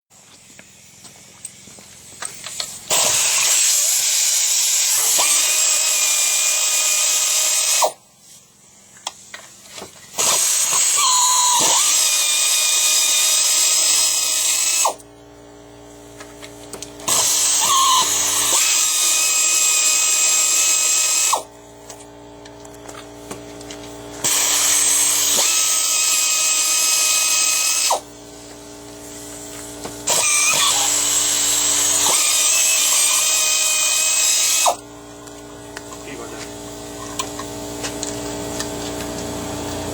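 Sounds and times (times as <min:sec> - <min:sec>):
power tool whining: 0:00.4 - 0:08.1, 0:08.9 - 0:39.9.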